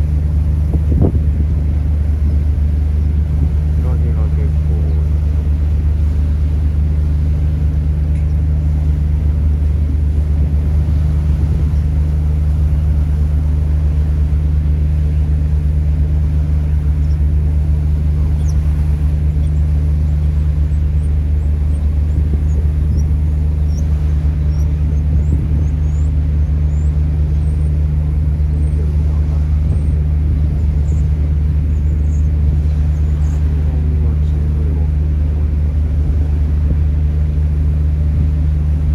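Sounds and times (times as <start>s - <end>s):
ferry engine deep hum: 0.0s - 38.9s.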